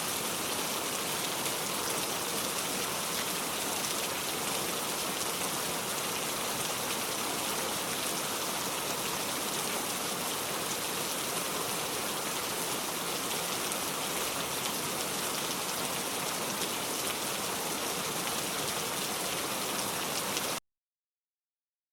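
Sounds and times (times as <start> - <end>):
heavy rain falling: 0.0 - 20.6.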